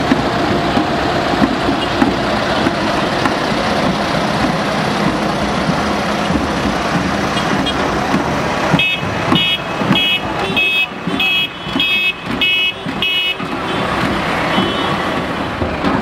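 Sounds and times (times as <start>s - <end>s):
tractor diesel engines passing: 0.0s - 16.0s.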